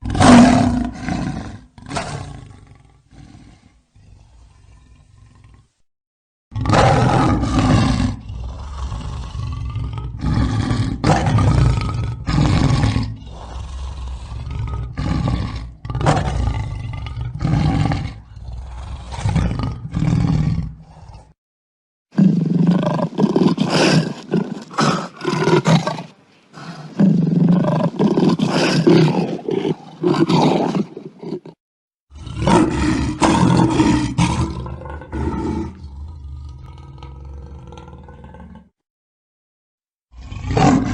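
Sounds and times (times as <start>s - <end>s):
lion roaring and grunting: 0.0s - 5.7s, 6.5s - 21.4s, 22.2s - 38.8s, 40.1s - 40.9s.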